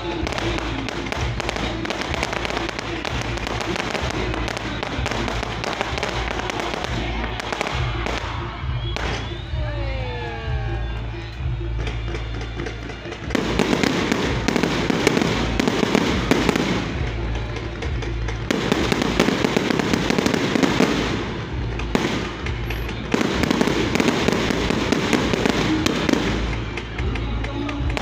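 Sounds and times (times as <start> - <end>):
fireworks crackling and popping: 0.0 - 9.6, 11.2 - 28.0.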